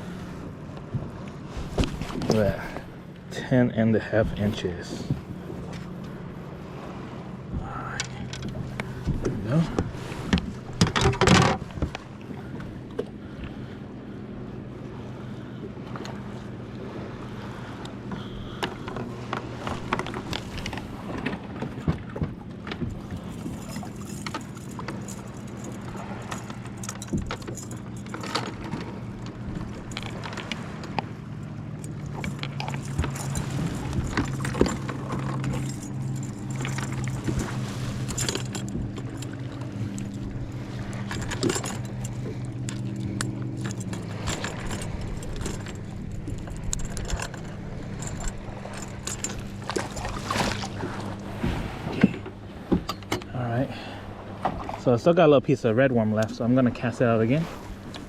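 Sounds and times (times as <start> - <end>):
distant motorboat engine: 0.0 - 58.0
gear clicking and knocking in kayak: 0.5 - 6.6, 7.4 - 13.6, 17.8 - 54.8, 57.8 - 58.0.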